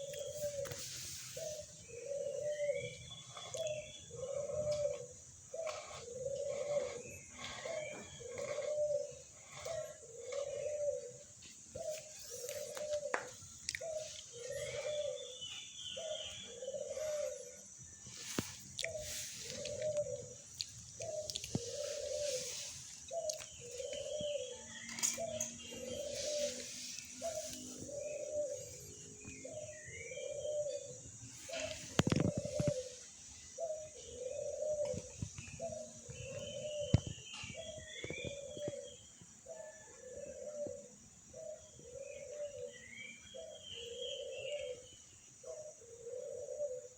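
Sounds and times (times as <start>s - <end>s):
birds chirping: 0.0s - 46.9s
dove cooing: 0.0s - 46.9s.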